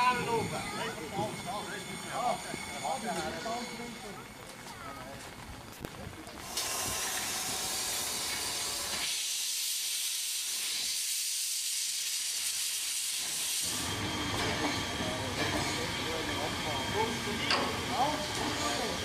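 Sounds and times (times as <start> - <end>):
steam locomotive venting steam: 0.0 - 4.7, 6.3 - 19.0.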